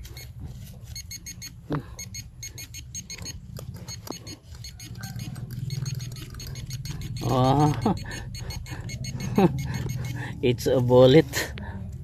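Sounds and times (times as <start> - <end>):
metal detector pinpointer beeping: 0.0 - 11.2
scattered clicks: 1.0 - 12.0
low hum: 1.7 - 12.0.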